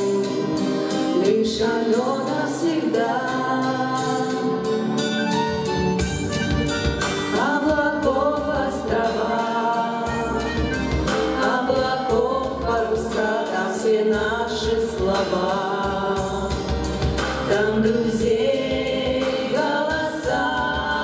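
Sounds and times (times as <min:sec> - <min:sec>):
women singing in harmony: 0:00.0 - 0:05.0, 0:07.3 - 0:16.8, 0:17.4 - 0:21.0
pop backing track with steady beat: 0:00.0 - 0:21.0.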